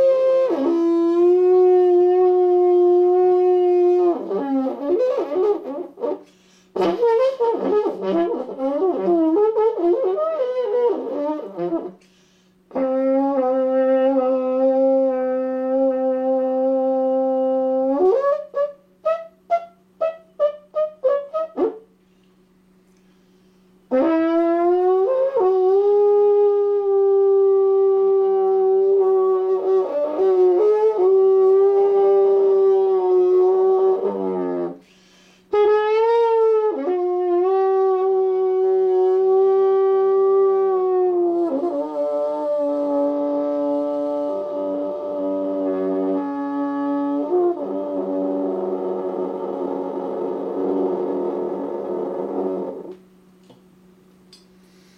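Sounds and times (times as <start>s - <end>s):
trombone playing long notes: 0.0s - 12.0s, 12.7s - 22.0s, 23.8s - 53.0s.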